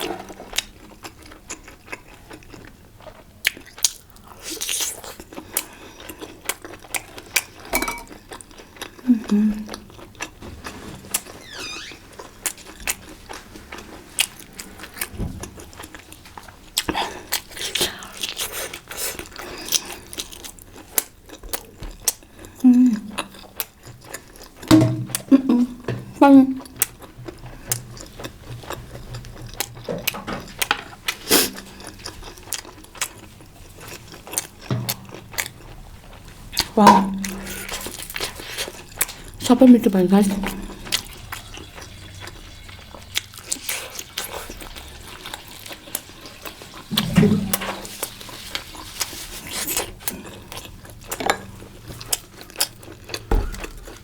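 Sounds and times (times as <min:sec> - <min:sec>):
chewing with clicks and smacks: 0:00.0 - 0:10.4, 0:12.1 - 0:25.3, 0:26.6 - 0:39.5, 0:40.4 - 0:46.9, 0:47.5 - 0:54.0.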